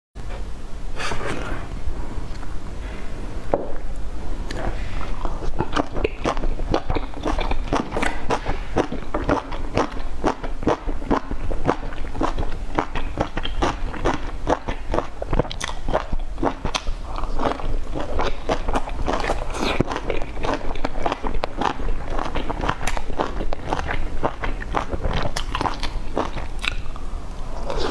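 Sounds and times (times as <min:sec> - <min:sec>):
low steady hum: 0:00.2 - 0:27.9
person chewing: 0:04.5 - 0:27.9.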